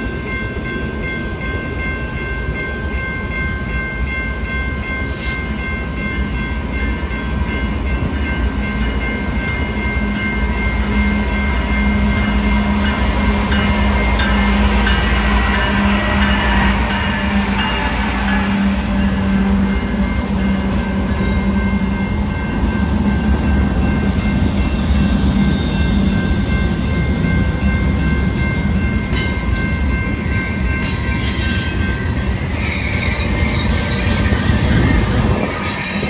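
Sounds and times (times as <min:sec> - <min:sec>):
diesel locomotives droning: 0:00.0 - 0:36.0
freight cars rumbling on rails: 0:00.0 - 0:36.0.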